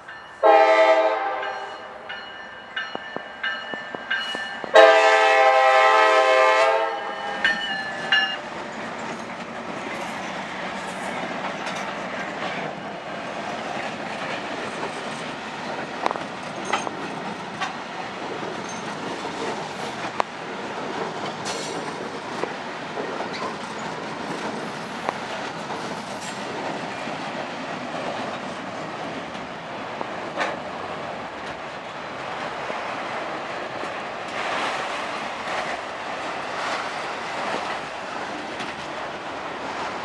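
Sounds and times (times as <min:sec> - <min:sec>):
train wheels rumbling on rail: 0:00.0 - 0:40.0
wheels clicking over rail joints: 0:07.4 - 0:39.9.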